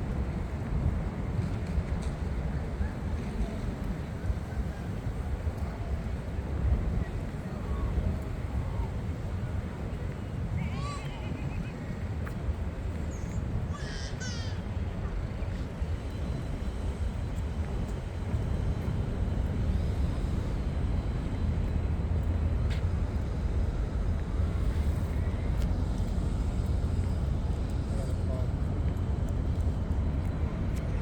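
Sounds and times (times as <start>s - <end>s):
city ambience rumble: 0.0s - 31.0s.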